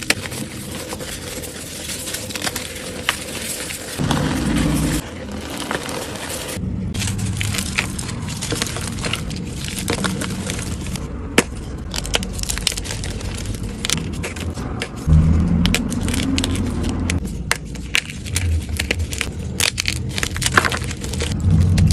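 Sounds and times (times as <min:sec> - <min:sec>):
chalk crunching and crumbling: 0:00.0 - 0:21.9.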